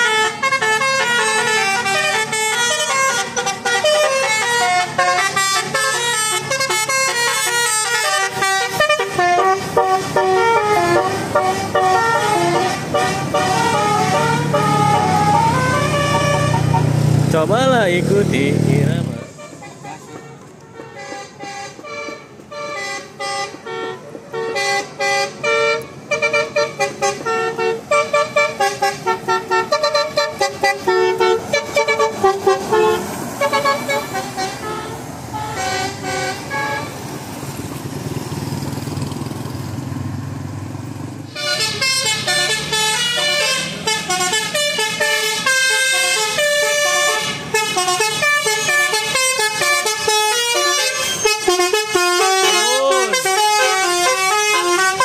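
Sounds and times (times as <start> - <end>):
musical air horn melody: 0.0 - 17.1, 19.0 - 37.0, 41.3 - 55.0.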